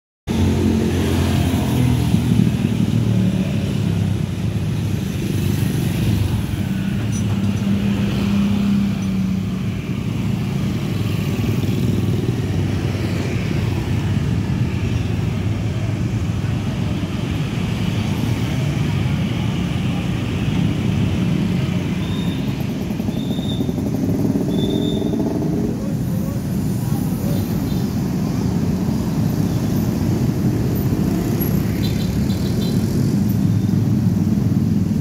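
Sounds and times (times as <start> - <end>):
motorcycle engines in traffic: 0.3 - 35.0.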